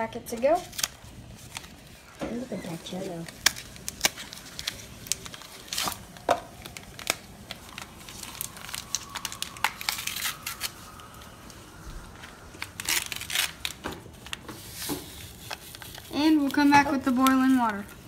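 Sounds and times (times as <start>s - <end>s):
paper packaging crinkling and tearing: 0.3s - 18.0s
packaging rustling: 0.5s - 18.0s.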